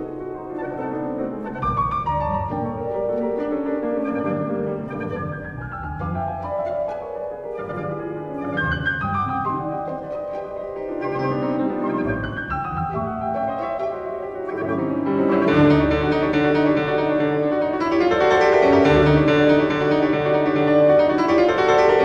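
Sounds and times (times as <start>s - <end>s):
slow classical piano music: 0.0s - 22.0s.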